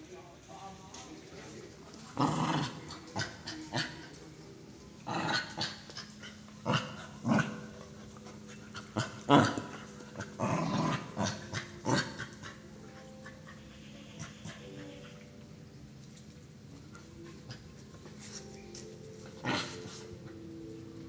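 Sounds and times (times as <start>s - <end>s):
dogs growling: 2.0s - 21.0s.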